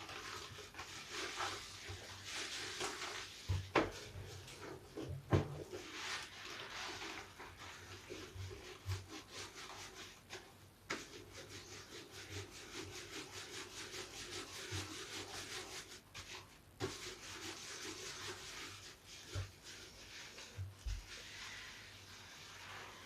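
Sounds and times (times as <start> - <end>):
sponge scrubbing strokes: 0.0 - 23.0.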